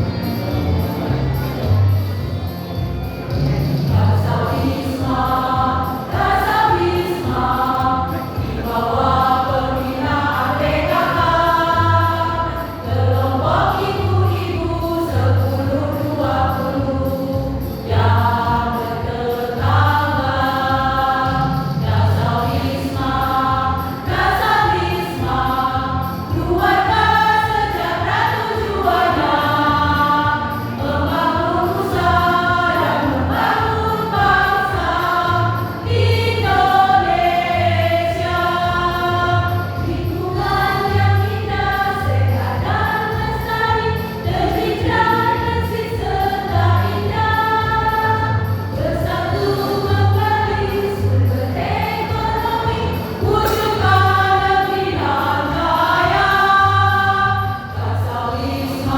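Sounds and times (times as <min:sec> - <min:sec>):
choir singing: 0:03.8 - 0:58.9.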